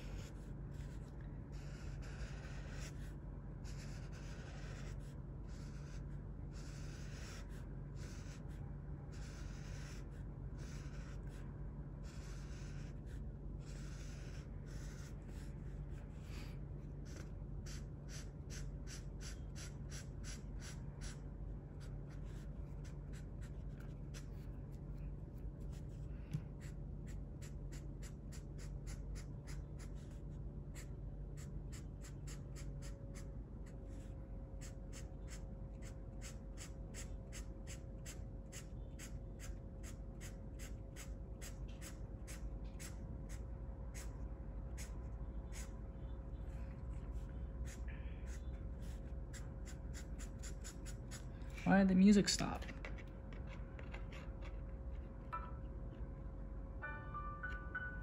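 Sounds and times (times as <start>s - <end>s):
marker scratching on paper: 0.0s - 46.1s, 47.1s - 51.3s
steady low hum: 0.0s - 58.0s.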